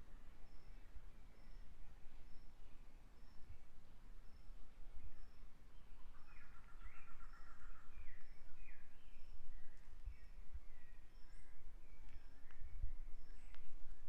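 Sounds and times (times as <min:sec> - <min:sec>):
songbirds calling: 0:00.0 - 0:14.0.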